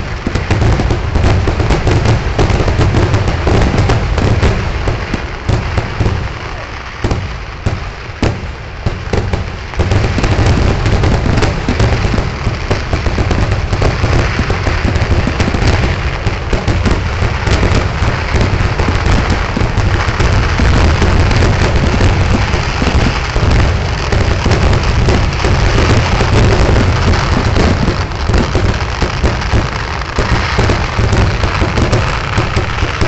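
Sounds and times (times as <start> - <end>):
fireworks bangs and crackle: 0.0 - 33.0.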